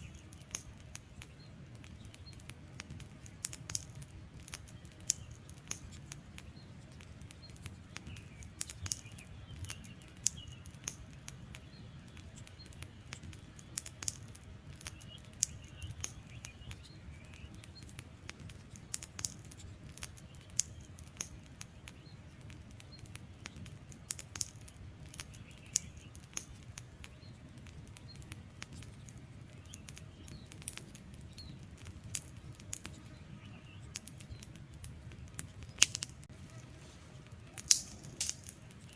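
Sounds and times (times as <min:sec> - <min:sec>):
logs crackling and popping: 0:00.0 - 0:38.9
low rumble of flame: 0:00.0 - 0:38.9.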